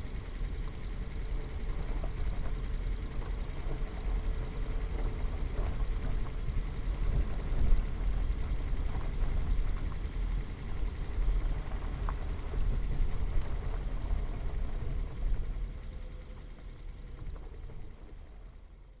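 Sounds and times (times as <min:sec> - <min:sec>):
car engine rumbling: 0:00.0 - 0:18.9
faint steady hum: 0:00.0 - 0:19.0.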